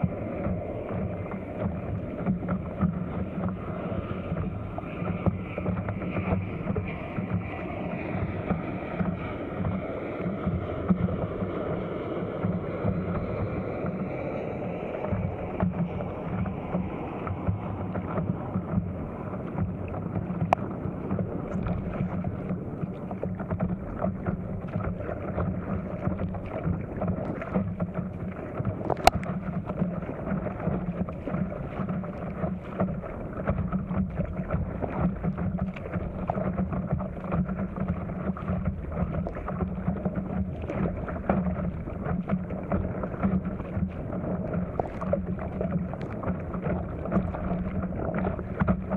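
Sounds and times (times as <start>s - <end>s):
water splashing and lapping: 0.0s - 48.9s
wind buffeting microphone: 0.0s - 48.9s.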